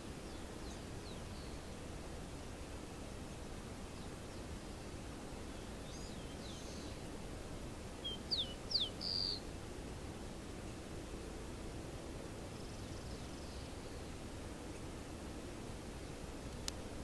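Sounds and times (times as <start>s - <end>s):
outdoor background noise: 0.0s - 17.0s
wild birds chirping: 0.0s - 17.0s.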